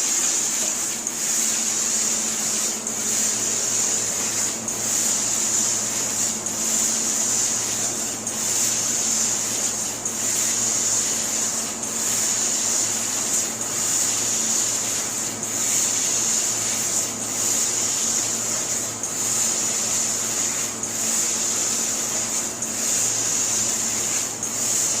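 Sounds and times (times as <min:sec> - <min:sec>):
laser cutter high hiss: 0:00.0 - 0:25.0.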